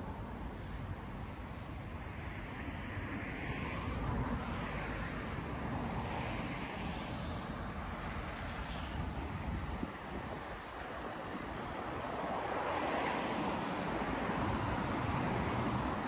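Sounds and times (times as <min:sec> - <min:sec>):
cars passing on street: 0:00.0 - 0:16.0.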